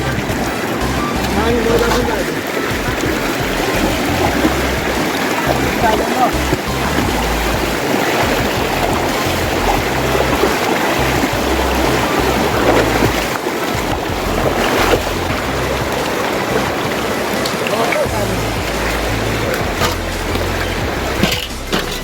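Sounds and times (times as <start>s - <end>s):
music: 0.0s - 22.0s
river water rushing: 0.0s - 22.0s.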